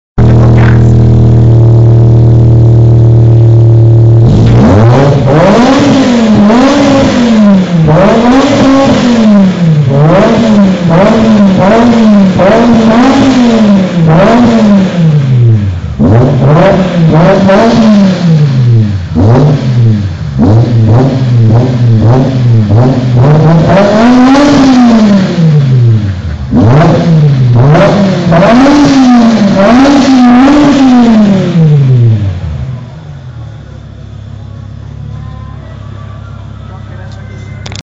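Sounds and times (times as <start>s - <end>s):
car engine revving hard: 0.2s - 32.7s.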